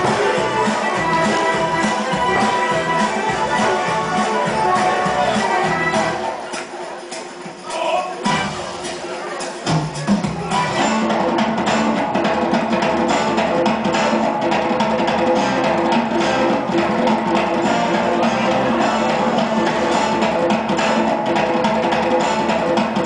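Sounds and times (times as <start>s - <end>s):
folk dance music: 0.0s - 23.0s
steady drum beat: 0.0s - 23.0s.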